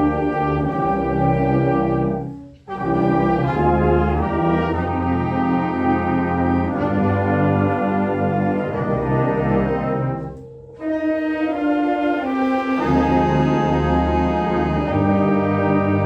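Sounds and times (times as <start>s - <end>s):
brass band playing chords: 0.0s - 16.0s.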